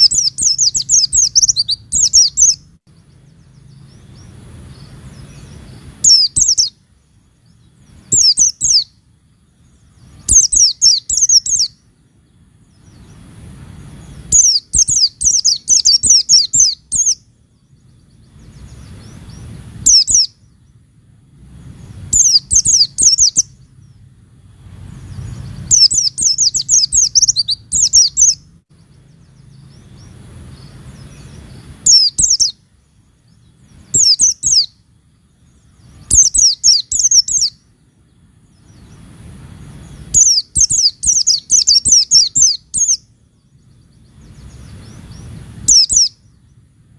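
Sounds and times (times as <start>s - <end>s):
bird high falling chirps: 0.0s - 20.8s, 21.6s - 24.1s, 25.0s - 46.6s.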